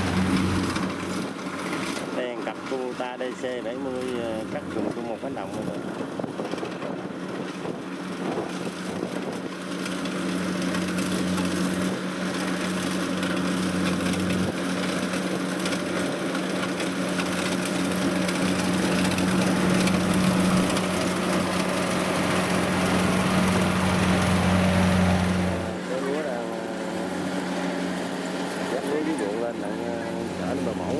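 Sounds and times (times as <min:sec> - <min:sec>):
diesel engine humming: 0:00.0 - 0:06.2, 0:09.6 - 0:30.9.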